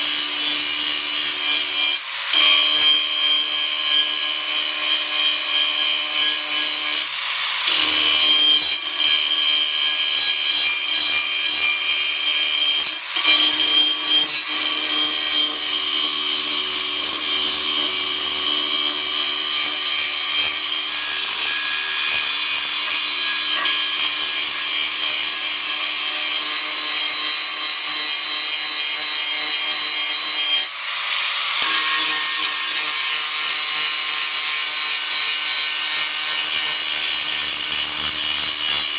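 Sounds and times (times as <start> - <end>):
power tool cutting steel plate: 0.0 - 38.9.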